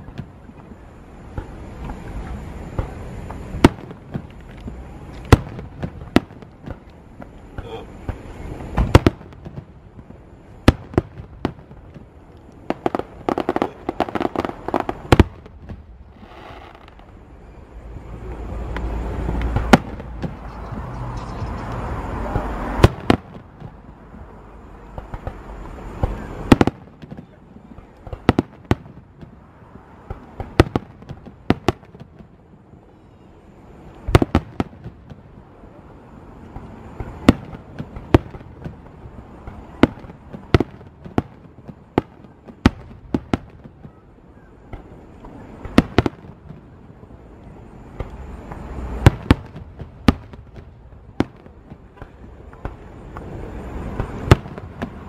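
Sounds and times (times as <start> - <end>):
fireworks bursting: 0.0 - 55.0
steady rush of noise: 0.0 - 55.0.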